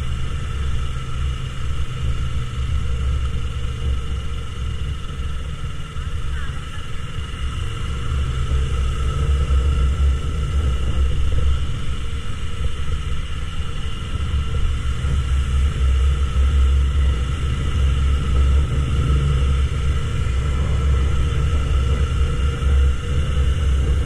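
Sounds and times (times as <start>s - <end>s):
motorcycle engine cruising: 0.0s - 24.0s
wind rumble on microphone: 0.0s - 24.0s.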